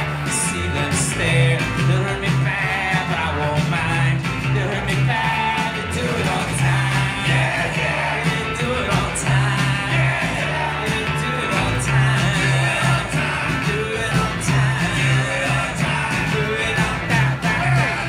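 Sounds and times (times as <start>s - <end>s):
bass guitar line: 0.0s - 18.0s
drums: 0.0s - 18.0s
rock band playing: 0.0s - 18.0s
strummed acoustic guitar: 0.0s - 18.0s.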